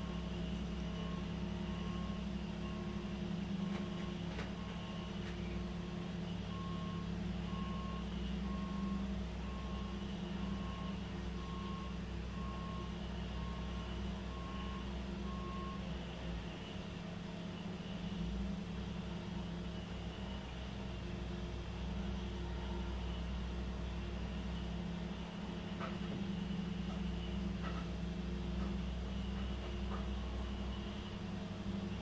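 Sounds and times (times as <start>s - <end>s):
steady low hum: 0.0s - 32.0s
vehicle reversing alarm beeps: 0.0s - 32.0s.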